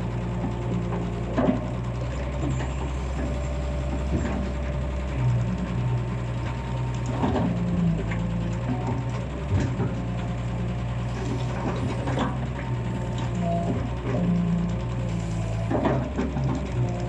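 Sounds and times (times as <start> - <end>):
excavator engine running: 0.0 - 17.0
machine knocks and clanks: 0.3 - 17.0.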